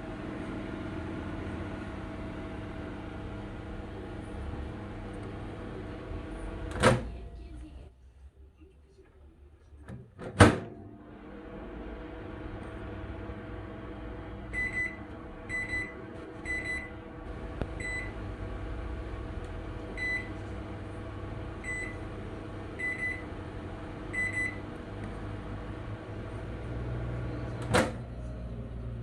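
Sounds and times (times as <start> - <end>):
microwave oven humming: 0.0 - 7.9, 9.8 - 29.0.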